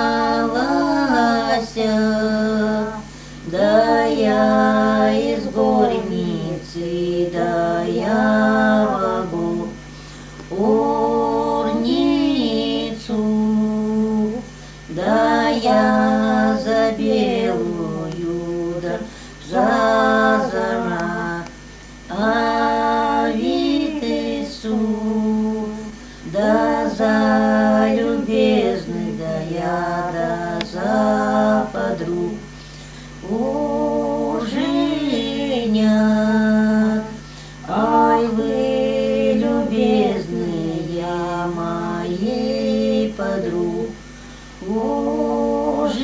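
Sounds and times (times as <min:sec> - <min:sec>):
women singing unaccompanied: 0:00.0 - 0:46.0.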